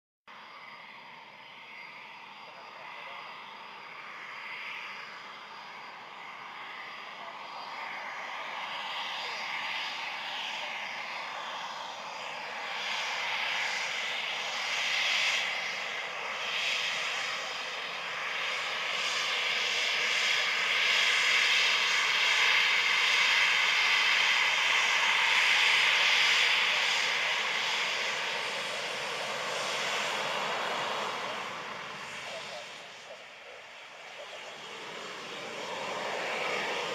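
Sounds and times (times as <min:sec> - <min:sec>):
jet engines whining and roaring: 0:00.3 - 0:36.9.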